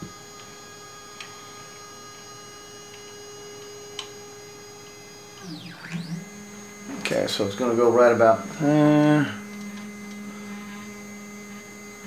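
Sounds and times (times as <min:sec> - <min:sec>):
laser engraver humming: 0:00.0 - 0:12.0.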